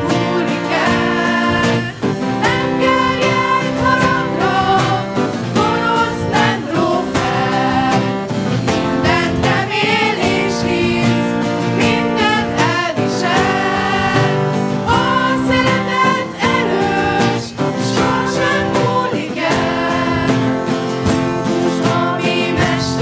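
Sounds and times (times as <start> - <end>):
acoustic guitar: 0.0 - 23.0
group singing worship song: 0.0 - 23.0.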